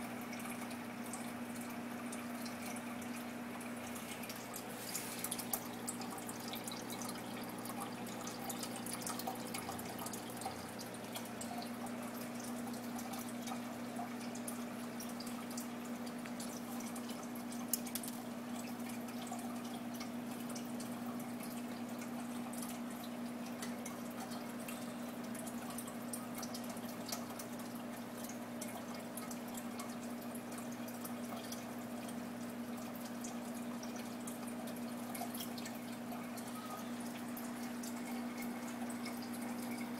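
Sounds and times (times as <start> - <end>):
filter motor hum: 0.0 - 39.9
water trickling and dripping: 0.0 - 39.9.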